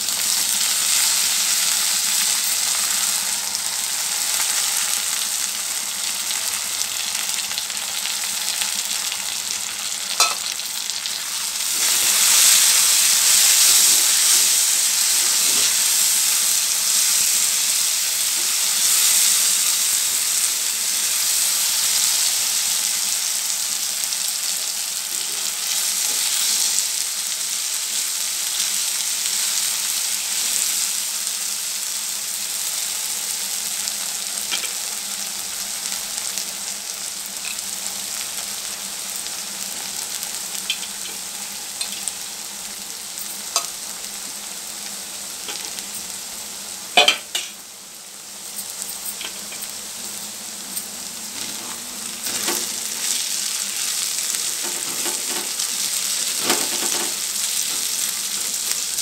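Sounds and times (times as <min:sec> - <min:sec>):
lentils sizzling in hot oil: 0:00.0 - 0:59.0.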